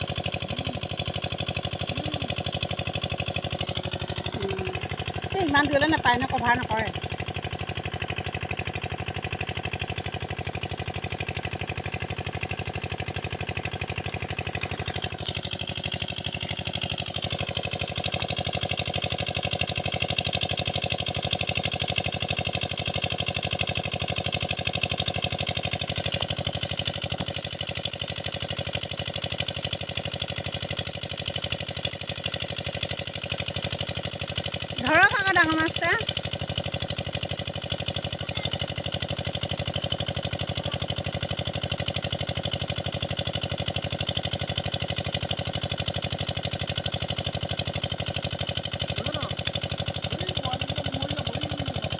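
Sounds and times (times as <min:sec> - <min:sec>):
small engine chugging: 0:00.0 - 0:51.9.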